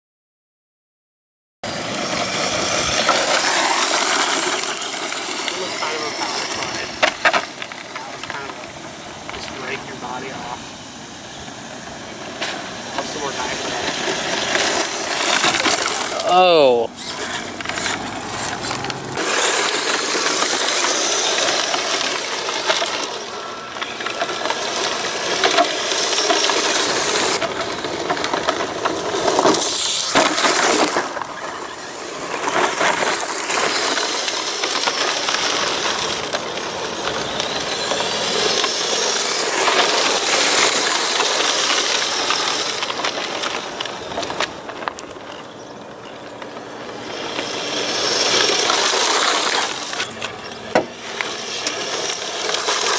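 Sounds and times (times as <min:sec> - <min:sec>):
high motor and gear whine: 0:01.7 - 0:52.9
tyres crunching on gravel: 0:01.7 - 0:52.9.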